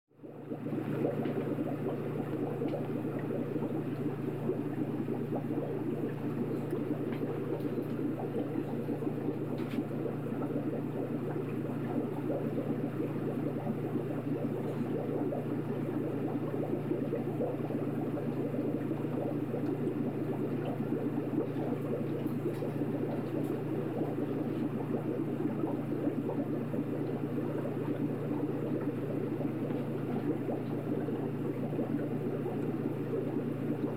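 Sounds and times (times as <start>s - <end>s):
underwater rumble: 0.2s - 33.9s.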